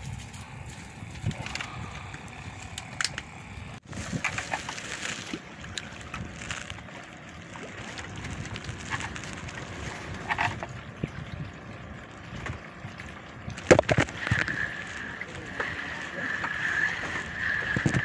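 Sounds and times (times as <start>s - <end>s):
steady high whine: 0.0s - 10.9s, 12.9s - 18.0s
wind: 0.0s - 18.0s.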